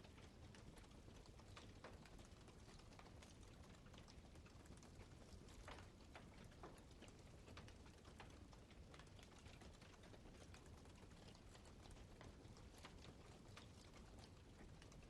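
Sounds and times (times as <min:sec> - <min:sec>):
low rumble of burning: 0:00.0 - 0:15.0.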